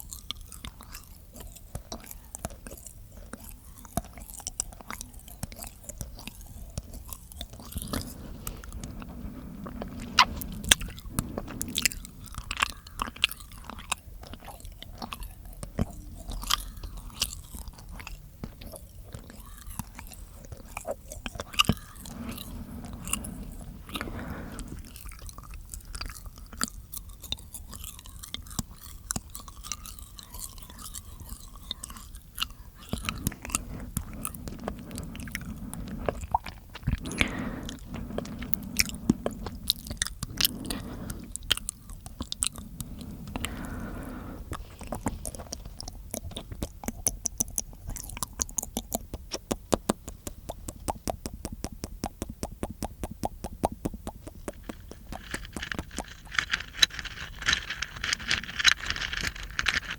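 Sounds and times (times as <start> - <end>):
wet tongue and lip clicks: 0.0 - 59.9.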